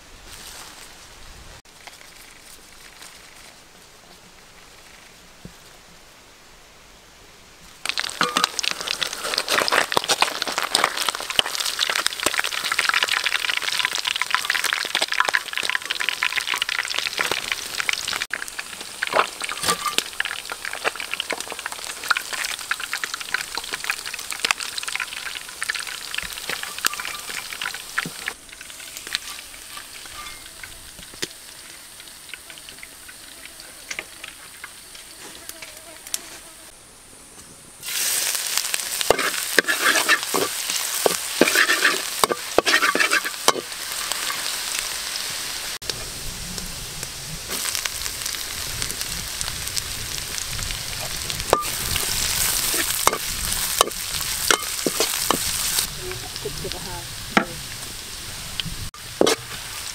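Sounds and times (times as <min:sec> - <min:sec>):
fish frying in hot oil: 0:07.8 - 0:35.5, 0:37.8 - 0:59.9.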